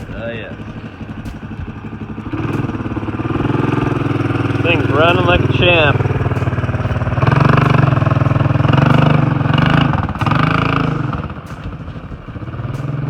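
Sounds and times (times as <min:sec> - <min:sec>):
three-wheeler engine running under throttle: 0:00.0 - 0:13.0.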